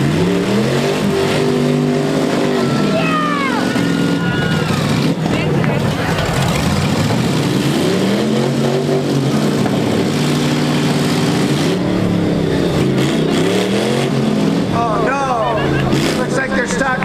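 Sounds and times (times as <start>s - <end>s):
truck engines revving hard: 0.0s - 17.0s.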